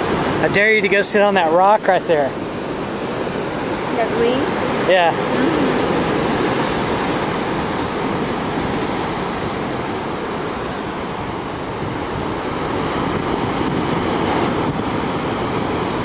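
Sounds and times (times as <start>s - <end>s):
ocean surf breaking over rocks: 0.0s - 16.0s.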